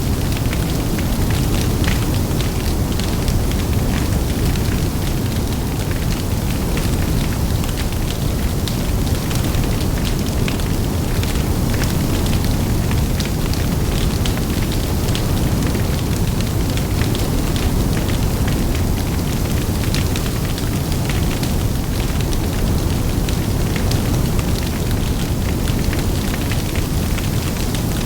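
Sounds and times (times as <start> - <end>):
burning wood crackling and popping: 0.0 - 28.0
low rumble of flames: 0.0 - 28.0
wind: 0.0 - 28.0.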